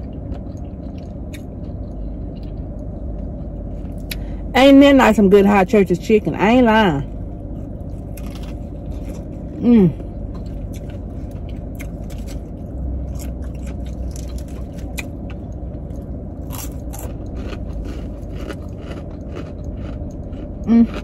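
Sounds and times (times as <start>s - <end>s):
chewing crispy food: 0.0s - 4.3s, 7.0s - 21.0s
car engine idling hum: 0.0s - 21.0s.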